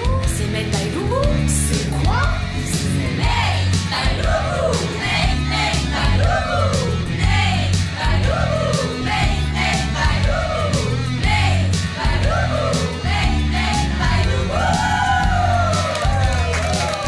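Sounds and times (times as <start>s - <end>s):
heavy bass line: 0.0s - 17.0s
steady drum beat: 0.0s - 17.0s.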